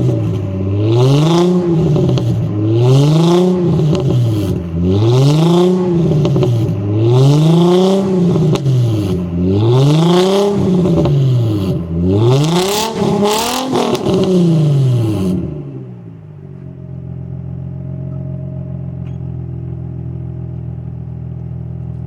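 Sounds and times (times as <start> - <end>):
car engine revving: 0.0 - 17.9
exhaust crackling: 0.0 - 18.0
car engine idling: 0.0 - 22.0.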